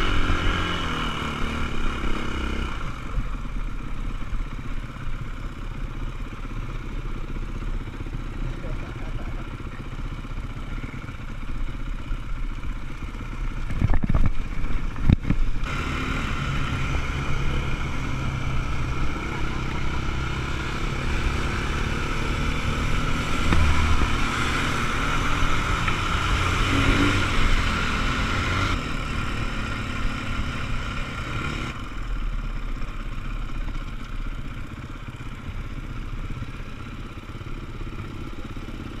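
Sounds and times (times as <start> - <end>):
motorcycle engines running: 0.0 - 39.0.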